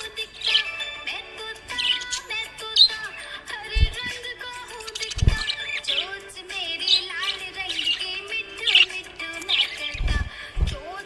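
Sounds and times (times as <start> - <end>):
budgerigars chirping: 0.0 - 10.8
background music with held tones: 0.0 - 11.0.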